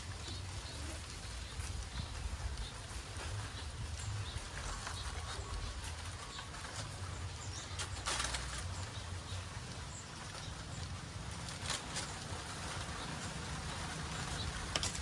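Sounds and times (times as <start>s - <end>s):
light rustling: 0.1s - 15.0s.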